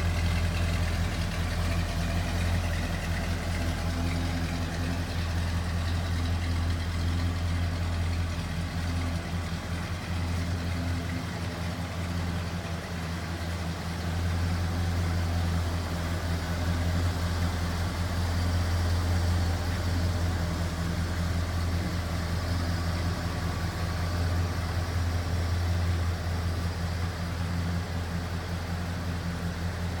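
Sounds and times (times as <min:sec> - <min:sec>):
pickup truck engine idling: 0:00.0 - 0:30.0.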